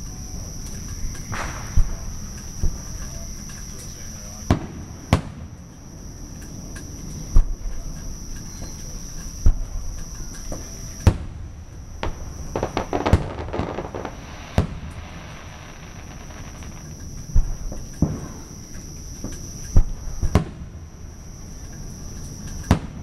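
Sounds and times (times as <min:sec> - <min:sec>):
fireworks bangs: 0:00.0 - 0:05.7, 0:06.6 - 0:20.8, 0:22.5 - 0:23.0
fireworks crackling: 0:00.0 - 0:23.0.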